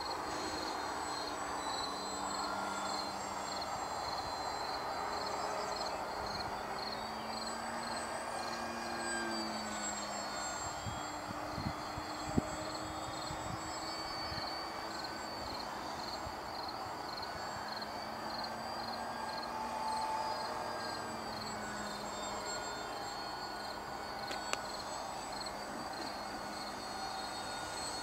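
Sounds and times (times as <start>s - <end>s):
model plane propeller droning: 0.0s - 28.0s
insect chirping: 0.1s - 28.0s.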